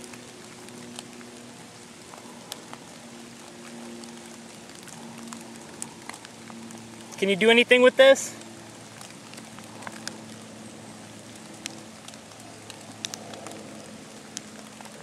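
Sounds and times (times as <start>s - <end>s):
faint steady hum: 0.0s - 15.0s
light rain hiss: 0.0s - 15.0s
rain drop ticks: 0.0s - 15.0s.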